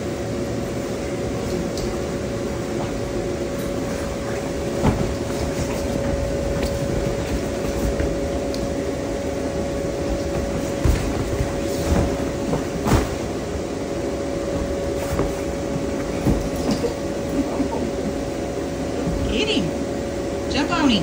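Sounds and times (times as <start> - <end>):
electric blower fan whirring: 0.0 - 21.0.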